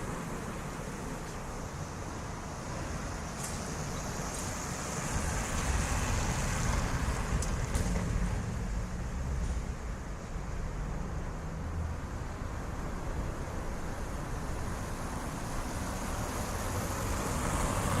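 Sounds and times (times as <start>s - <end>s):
cars passing: 0.0s - 18.0s
light rail train passing: 0.0s - 18.0s.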